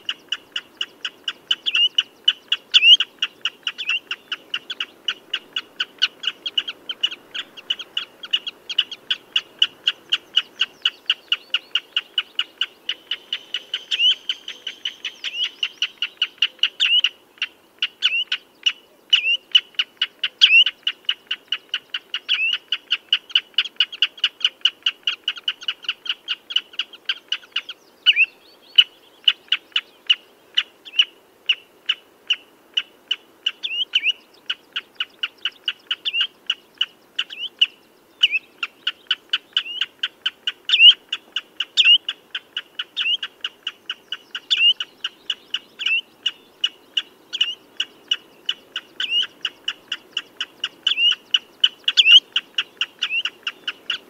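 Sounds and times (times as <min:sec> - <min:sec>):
bird piping calls: 0:00.0 - 0:54.0.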